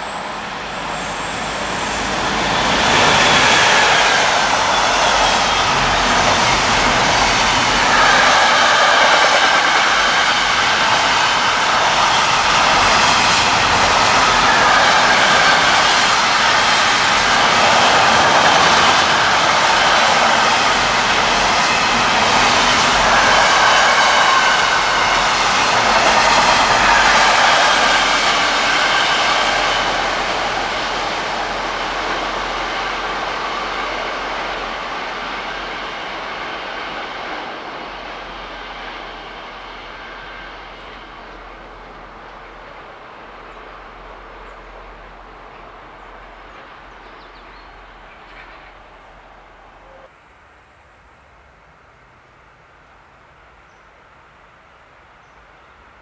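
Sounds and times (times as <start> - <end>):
train wheels rolling on rail: 0.0 - 50.1
electric locomotive passing: 0.0 - 56.0.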